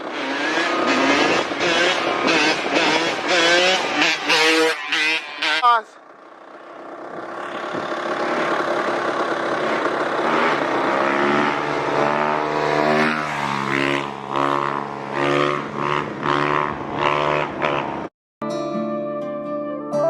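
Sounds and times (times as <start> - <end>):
dirt bike engines revving: 0.0 - 18.1.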